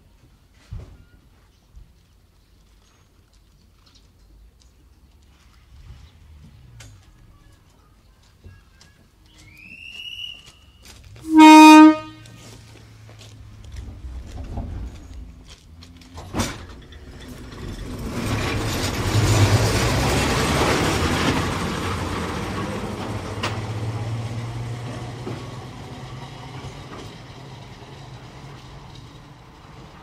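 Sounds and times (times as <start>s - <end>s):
train hum and wheel noise: 5.2s - 30.0s.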